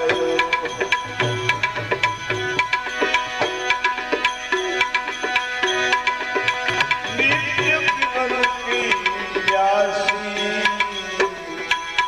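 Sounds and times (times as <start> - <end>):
tabla playing: 0.0 - 12.0.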